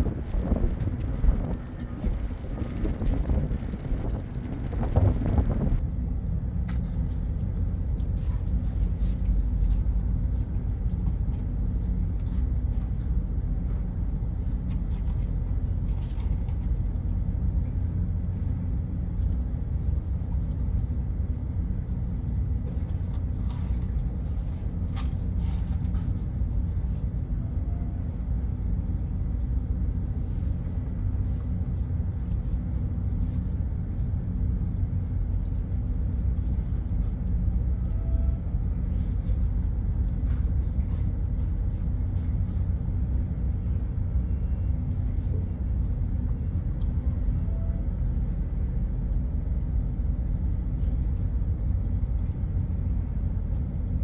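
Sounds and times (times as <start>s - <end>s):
ship machinery rumble: 0.0s - 54.0s.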